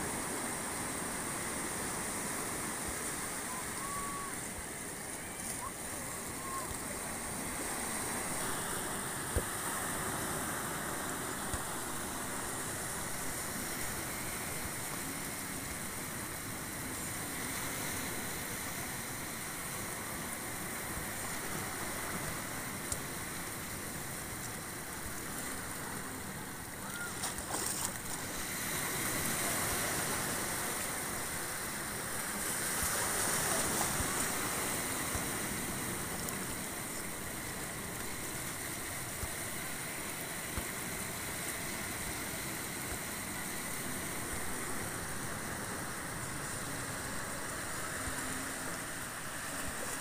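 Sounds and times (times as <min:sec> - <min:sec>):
waves lapping on rocky shore: 0:00.0 - 0:50.0.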